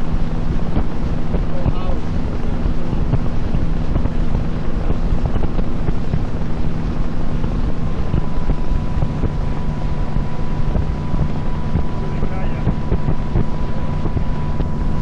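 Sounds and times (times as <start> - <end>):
boat engine running: 0.0 - 15.0
thin steady whine: 0.0 - 15.0
wind buffeting microphone: 0.0 - 15.0.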